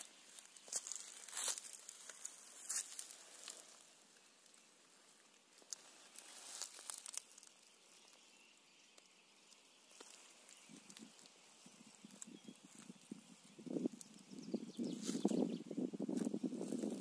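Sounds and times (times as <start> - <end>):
faint crackles and rustles: 0.0 - 17.0.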